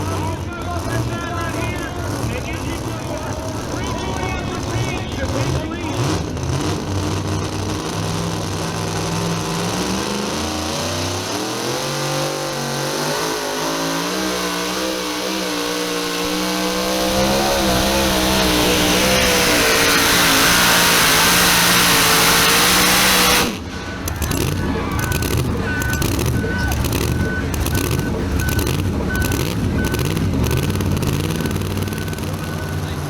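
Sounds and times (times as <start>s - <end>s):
truck engine at full throttle: 0.0s - 33.0s.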